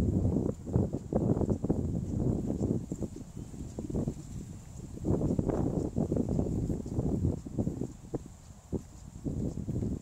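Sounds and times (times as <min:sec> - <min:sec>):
wind buffeting microphone: 0:00.0 - 0:10.0
footsteps on paving: 0:00.4 - 0:10.0.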